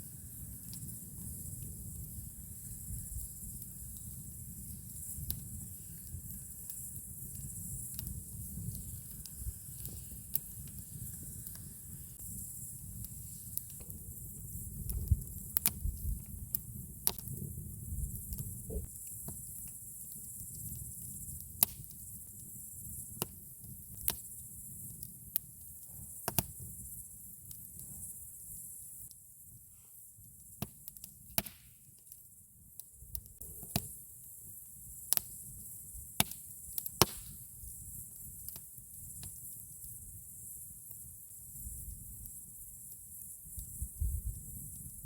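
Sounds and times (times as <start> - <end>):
campfire crackling and popping: 0.3 - 28.2, 30.5 - 45.0.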